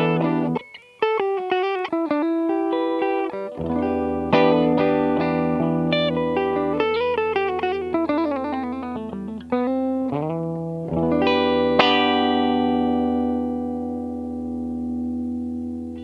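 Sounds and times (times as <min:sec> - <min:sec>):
electric guitar chords and notes: 0:00.0 - 0:16.0.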